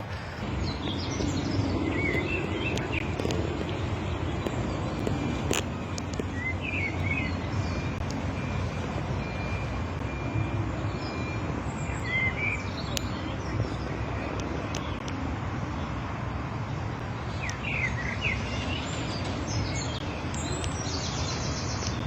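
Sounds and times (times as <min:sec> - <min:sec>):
birds chirping: 0:00.0 - 0:22.0
steady low rumble: 0:00.0 - 0:22.0.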